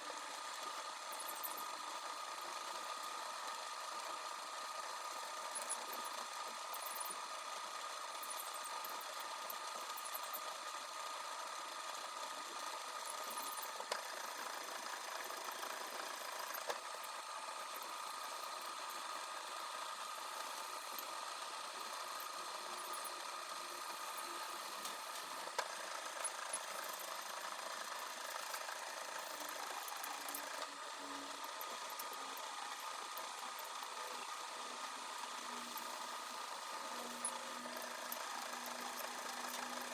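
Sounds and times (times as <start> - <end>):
metal lathe motor whine: 0.2 - 39.9.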